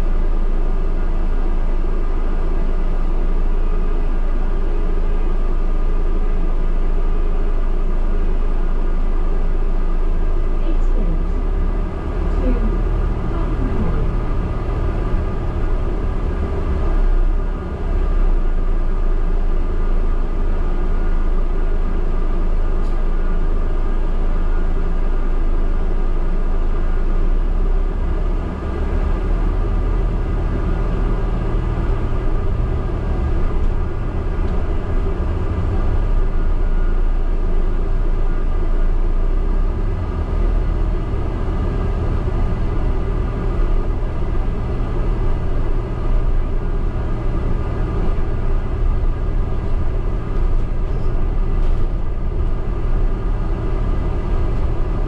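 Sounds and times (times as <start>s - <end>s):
bus engine rumble: 0.0s - 55.0s
constant hum: 0.0s - 55.0s.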